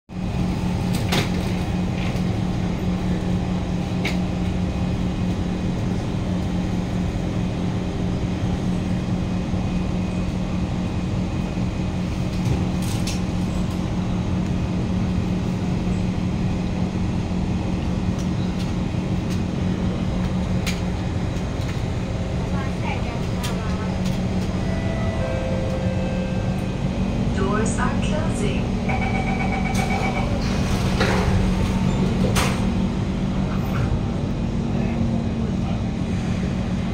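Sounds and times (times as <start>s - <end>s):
metro car hum: 0.1s - 36.9s.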